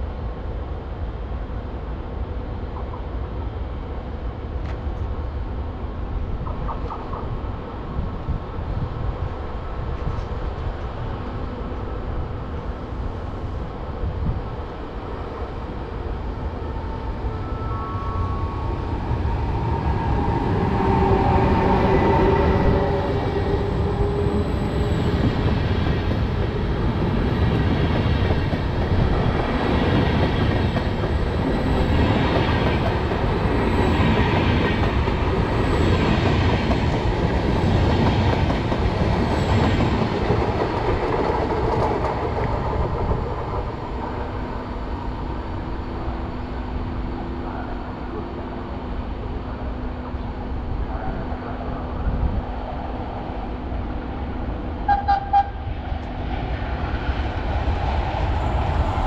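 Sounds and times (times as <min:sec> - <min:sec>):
train passing on rails: 0:00.0 - 0:59.0.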